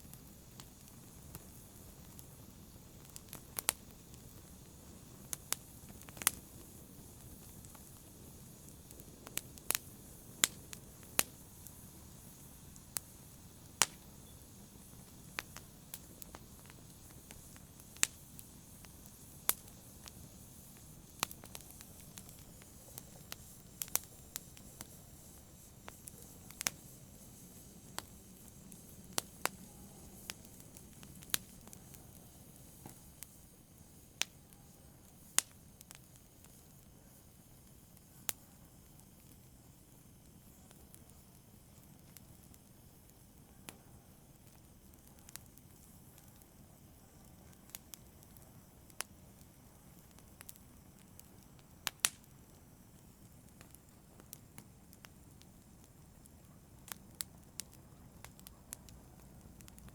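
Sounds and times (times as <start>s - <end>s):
faint low hiss: 0.0s - 59.9s
fire crackling: 0.0s - 59.9s.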